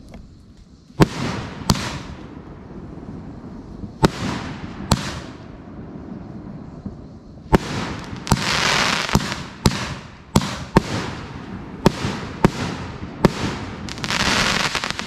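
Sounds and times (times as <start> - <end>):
firework crackle sizzling: 0.0 - 15.0.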